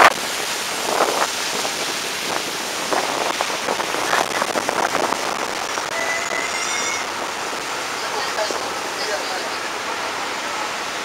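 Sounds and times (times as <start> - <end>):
water washing past hull: 0.0 - 11.0
wind across open deck: 0.0 - 11.0.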